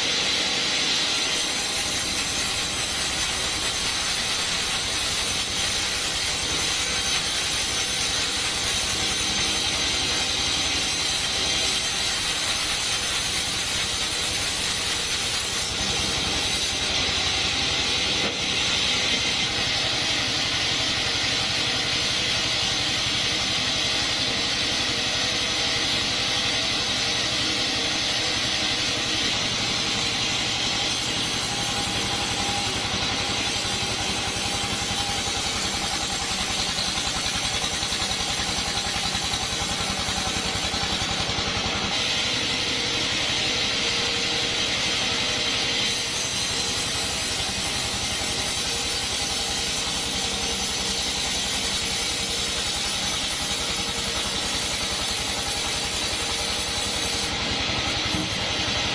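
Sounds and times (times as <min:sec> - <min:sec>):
bandsaw cutting wood: 0:00.0 - 0:58.9.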